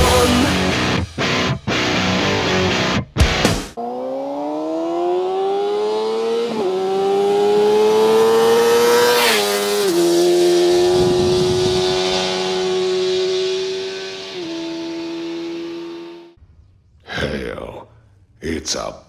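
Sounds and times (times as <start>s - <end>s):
motorcycle engine accelerating: 0.0s - 16.4s.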